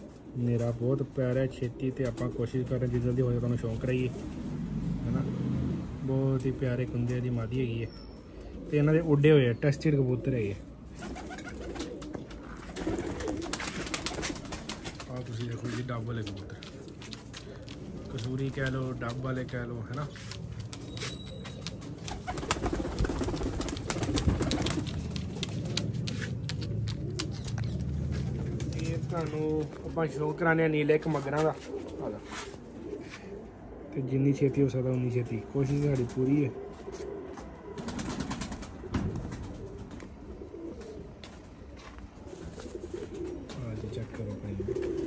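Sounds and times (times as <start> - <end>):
pigeons cooing: 0.0 - 5.8, 6.5 - 45.0.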